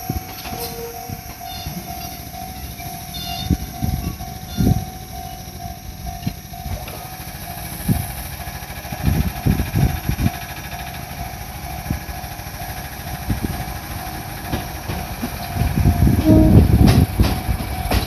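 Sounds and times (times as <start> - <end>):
level-crossing warning bell: 0.0 - 18.0
train wheels thudding over rail joints: 0.0 - 18.0.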